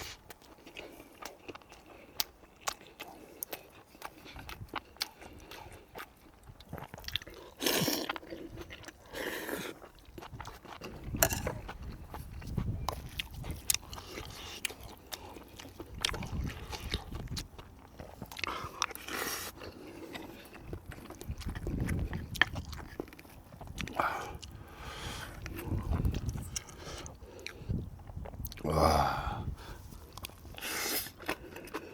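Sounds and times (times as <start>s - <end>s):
person chewing and crunching: 0.0s - 31.9s.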